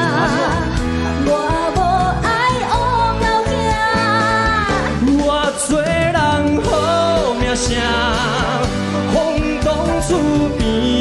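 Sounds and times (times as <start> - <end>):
pop song with vocals and band: 0.0 - 11.0.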